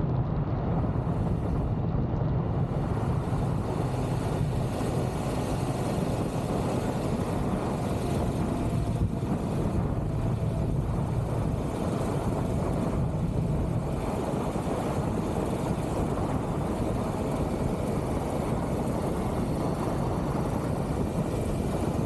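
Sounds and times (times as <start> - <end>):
wind and road noise: 0.0 - 22.0
motorcycle engine rumbling: 0.1 - 22.0.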